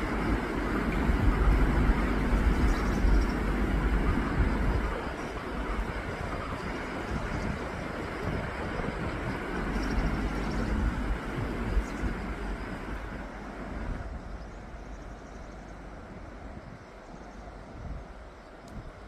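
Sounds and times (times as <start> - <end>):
low rushing outdoor rumble: 0.0 - 19.0.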